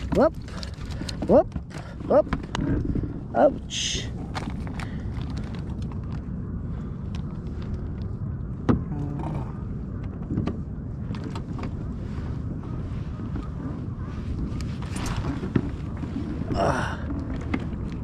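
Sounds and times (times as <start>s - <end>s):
low rumble on microphone: 0.0s - 18.0s.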